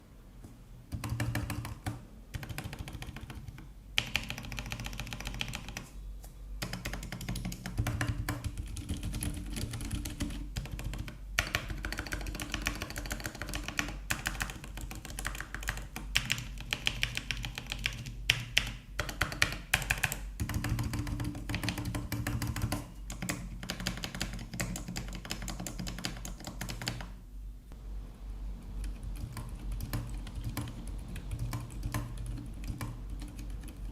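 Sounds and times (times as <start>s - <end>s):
fast typing on mechanical keyboard: 0.9s - 5.9s, 6.6s - 27.1s, 28.8s - 33.9s.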